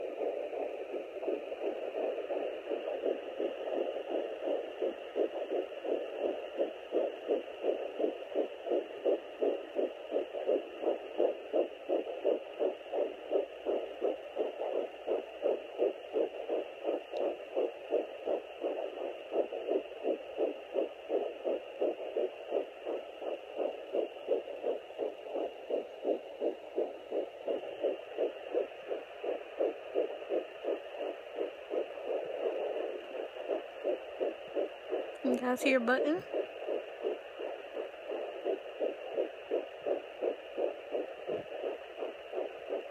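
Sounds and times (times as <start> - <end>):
rapid fetal heartbeat: 0.0 - 42.9.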